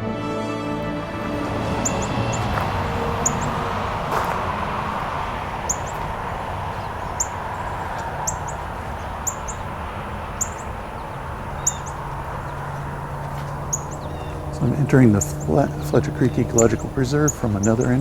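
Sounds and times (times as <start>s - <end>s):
bird chip notes: 0.8s - 18.0s
steady background hum: 0.9s - 18.0s.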